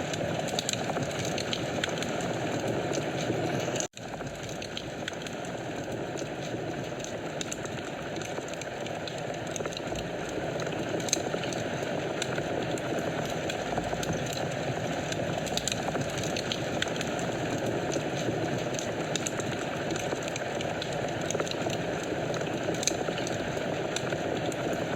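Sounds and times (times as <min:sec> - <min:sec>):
fire burning in fireplace: 0:00.0 - 0:24.9
fire crackles and pops: 0:00.0 - 0:24.9.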